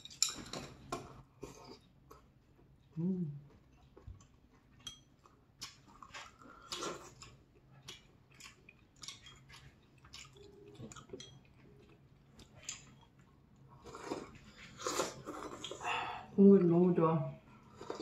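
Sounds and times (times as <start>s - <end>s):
chewing and slurping: 0.5s - 15.9s, 17.5s - 18.0s.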